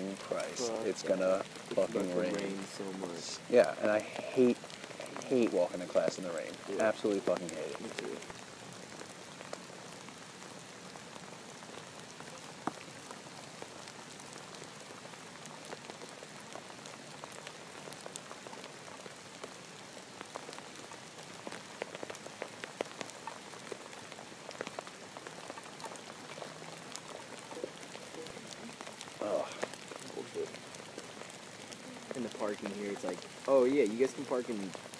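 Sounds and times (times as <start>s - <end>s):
rain falling: 0.0s - 34.9s
raindrop ticks: 0.0s - 34.9s.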